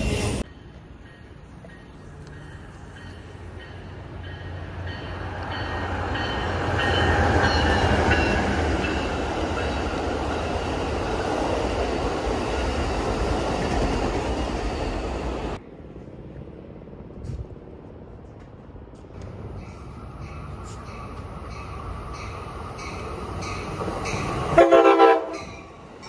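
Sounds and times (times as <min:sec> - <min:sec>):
train passing: 0:00.0 - 0:26.0
wheels rumbling on rail: 0:00.0 - 0:26.0.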